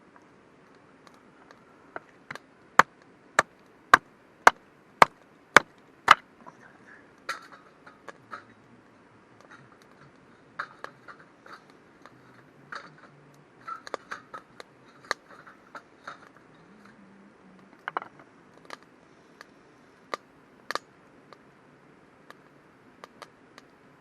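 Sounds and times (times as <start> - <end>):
campfire crackling and popping: 0.0 - 6.4, 7.1 - 24.0.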